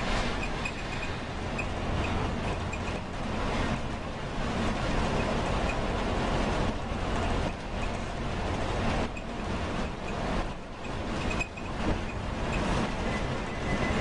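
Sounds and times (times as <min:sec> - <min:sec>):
vehicle running rumble: 0:00.0 - 0:14.0.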